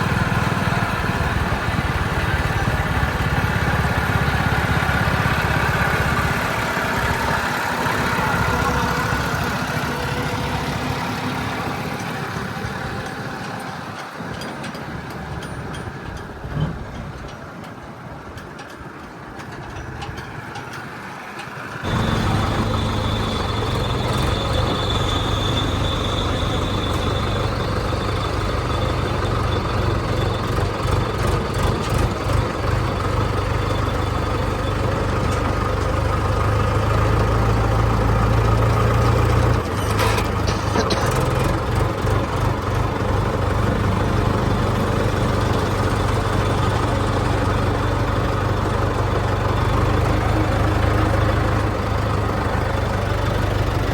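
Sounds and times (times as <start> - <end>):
diesel machinery engine running: 0.0 - 53.9.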